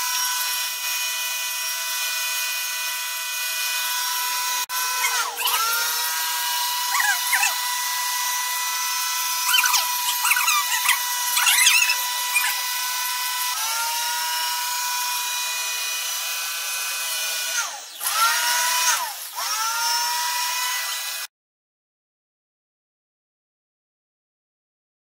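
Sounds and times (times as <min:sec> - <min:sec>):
high electric motor whine: 0:00.0 - 0:21.3.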